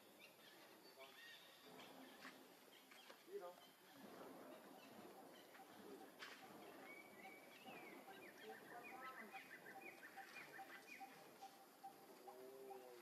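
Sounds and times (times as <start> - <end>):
distant birds chirping: 0.0 - 13.0.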